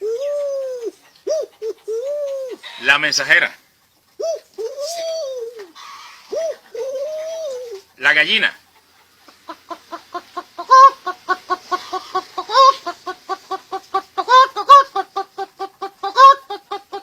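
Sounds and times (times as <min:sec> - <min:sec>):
man imitating hen clucks: 0:00.0 - 0:03.5, 0:04.2 - 0:17.0.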